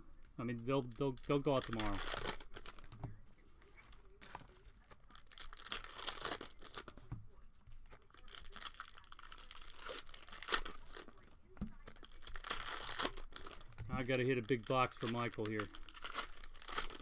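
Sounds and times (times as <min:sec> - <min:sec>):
plastic wrapper crinkling and tearing: 0:00.8 - 0:03.0, 0:03.8 - 0:07.1, 0:07.8 - 0:17.0.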